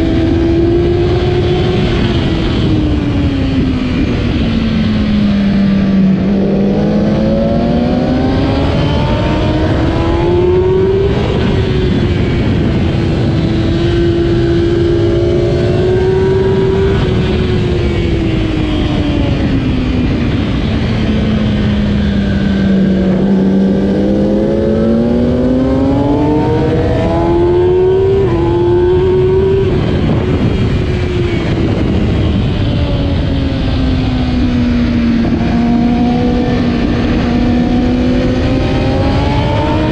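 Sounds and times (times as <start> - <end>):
motorcycle engine at race speed: 0.0 - 39.9
steady noisy rush: 0.0 - 39.9.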